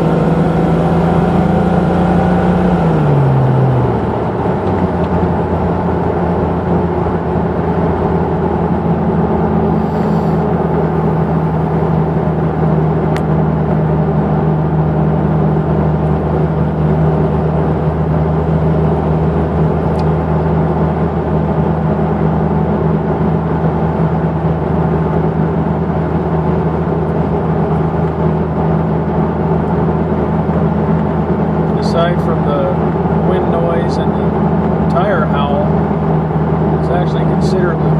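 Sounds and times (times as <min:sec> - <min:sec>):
car exhaust droning: 0:00.0 - 0:37.9.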